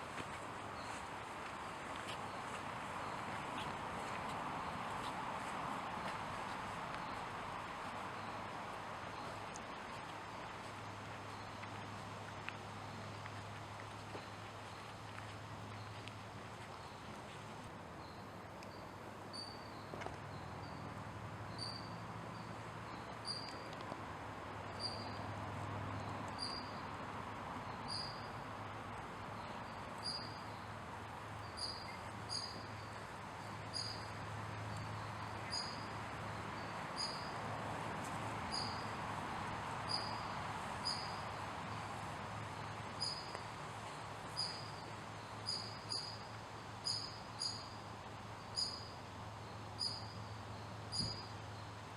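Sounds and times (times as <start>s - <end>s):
outdoor hum and hiss: 0.0s - 51.9s.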